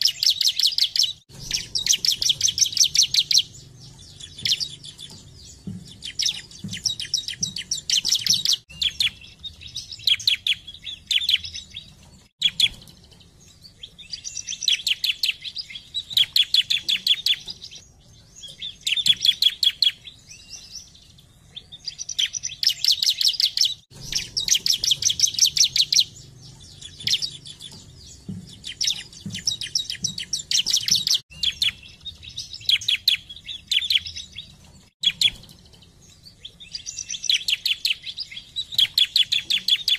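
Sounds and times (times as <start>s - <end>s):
bird singing rattling trills: 0.0s - 39.9s.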